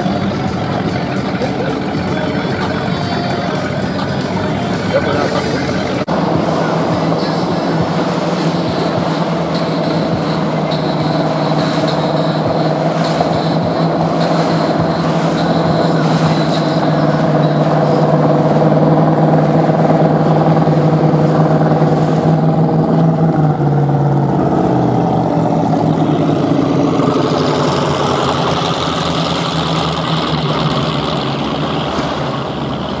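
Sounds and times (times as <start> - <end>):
boat engines passing: 0.0 - 33.0.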